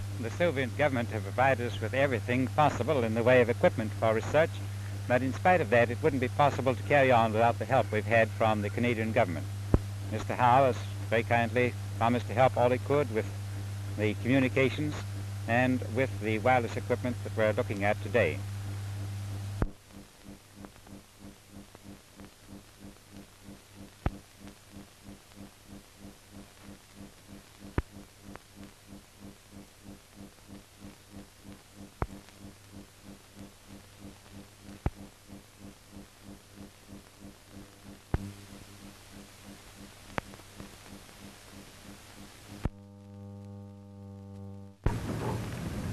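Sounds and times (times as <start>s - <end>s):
low pulsing hum: 0.0s - 45.9s.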